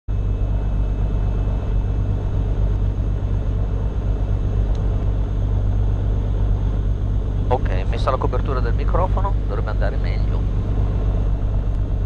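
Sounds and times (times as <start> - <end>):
piston engine and propeller drone: 0.1 - 12.0.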